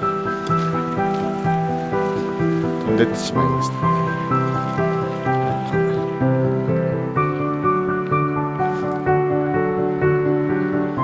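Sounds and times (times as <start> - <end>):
calm melody of held notes: 0.0 - 11.0.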